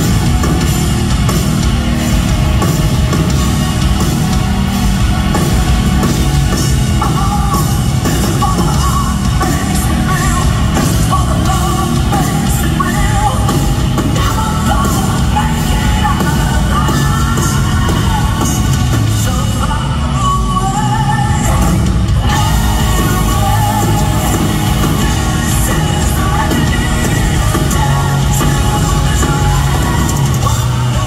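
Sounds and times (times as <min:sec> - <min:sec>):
live rock band playing: 0:00.0 - 0:31.0
person singing: 0:03.0 - 0:31.0.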